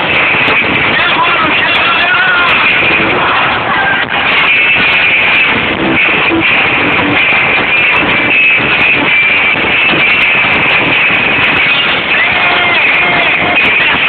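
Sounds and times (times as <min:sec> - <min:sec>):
live band with electric guitar: 0:00.0 - 0:14.0.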